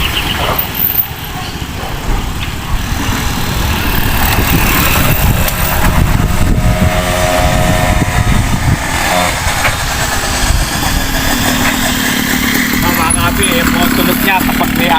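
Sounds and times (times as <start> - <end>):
two-stroke scooter engine: 0.0 - 14.9.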